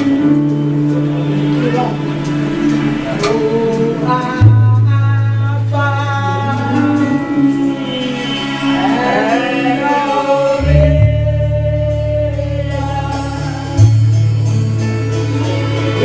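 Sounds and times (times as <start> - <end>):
gospel singing: 0.0 - 16.0
low held bass notes: 0.0 - 16.0.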